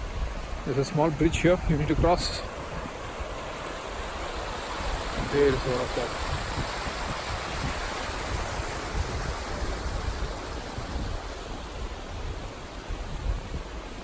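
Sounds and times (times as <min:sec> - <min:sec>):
waterfall and stream rushing: 0:00.0 - 0:14.0.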